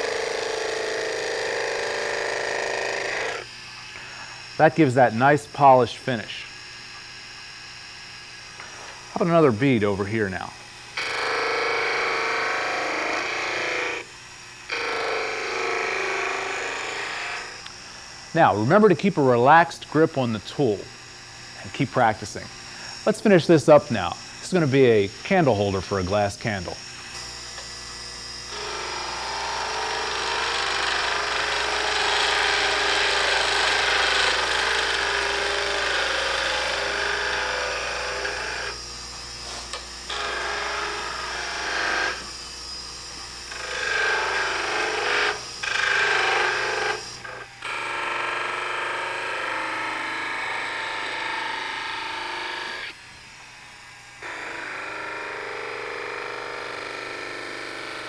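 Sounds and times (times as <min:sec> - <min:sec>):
lathe motor hum: 0:00.0 - 0:04.7, 0:10.6 - 0:18.4, 0:20.7 - 0:58.0.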